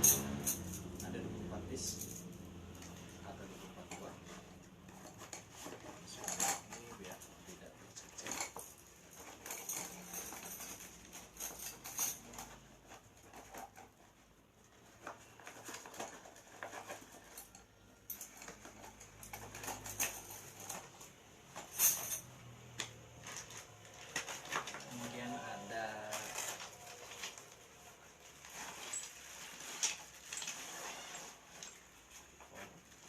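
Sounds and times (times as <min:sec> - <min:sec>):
rustling of packaging: 0:00.2 - 0:33.0.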